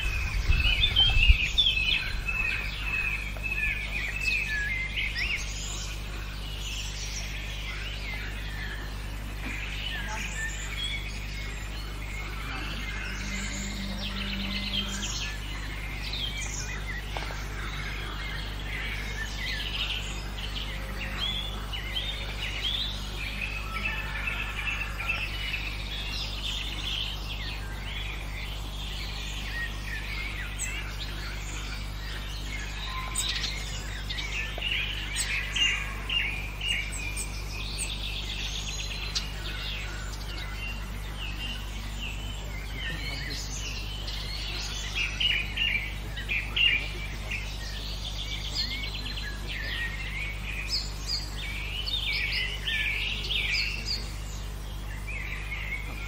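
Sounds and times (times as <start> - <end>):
low hum: 0.0 - 56.0
songbirds chirping and trilling: 0.0 - 56.0.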